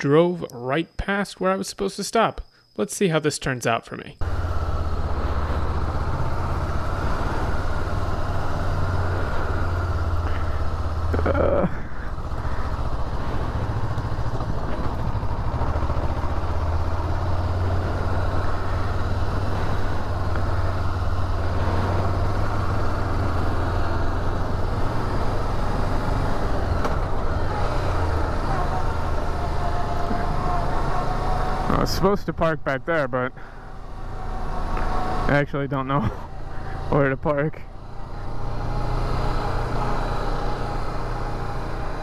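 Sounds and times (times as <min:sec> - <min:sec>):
motorcycle engine running: 0:04.2 - 0:42.0
wind and road noise: 0:04.2 - 0:42.0.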